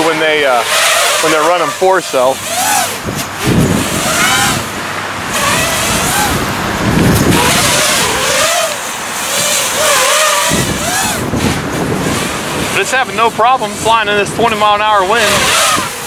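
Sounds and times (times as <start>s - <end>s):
quadcopter motors whining: 0.0s - 16.0s
wind rumbling on microphone: 0.0s - 16.0s.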